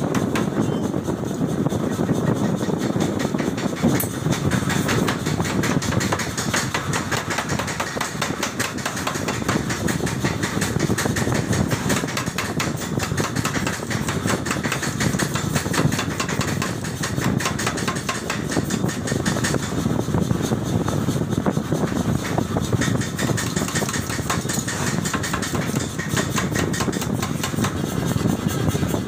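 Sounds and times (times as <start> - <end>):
power hammer pounding steel: 0.0 - 29.0.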